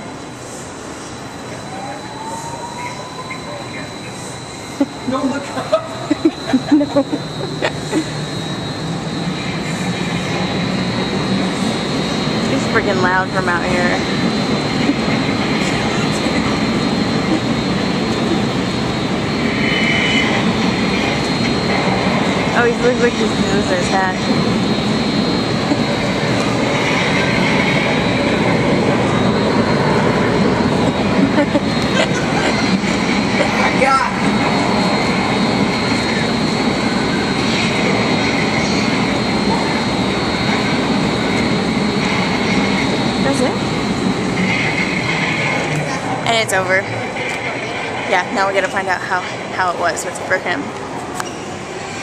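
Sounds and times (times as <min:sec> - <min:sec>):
blowers rushing wind: 0:00.0 - 0:52.0.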